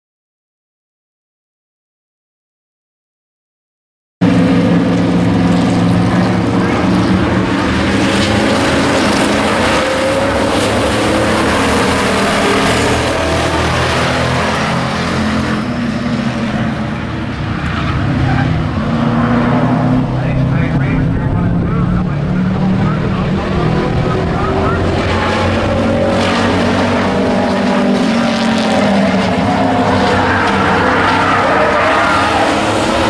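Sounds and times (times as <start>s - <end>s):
race truck engines droning: 4.2s - 33.0s.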